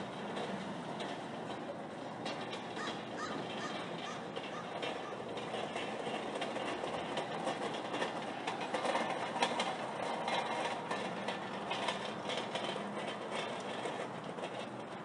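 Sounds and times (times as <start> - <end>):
metal rack rattling on asphalt: 0.0 - 15.0
steady mechanical drone: 0.0 - 15.0.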